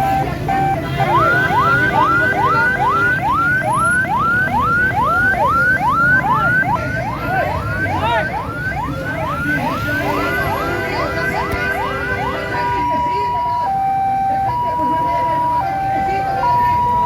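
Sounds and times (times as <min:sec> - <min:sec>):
electronic siren yelping: 0:00.0 - 0:17.0.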